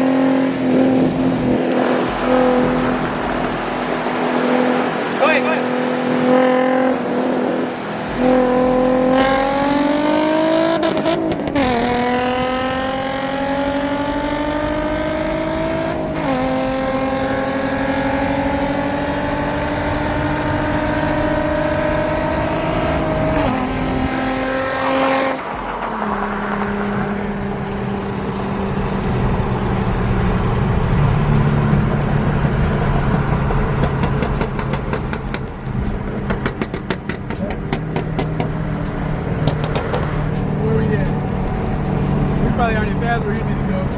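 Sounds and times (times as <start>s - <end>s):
car engine accelerating through gears: 0.0s - 43.9s.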